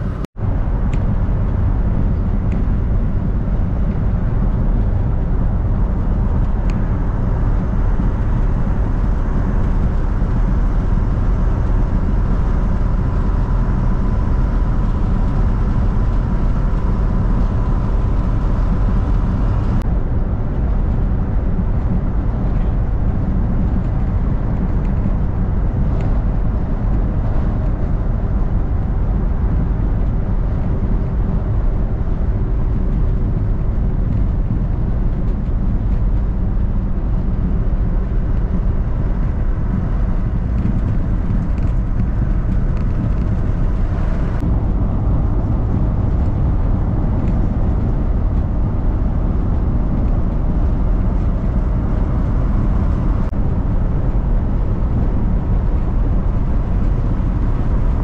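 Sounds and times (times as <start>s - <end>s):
road vehicle rumble: 0.0s - 58.0s.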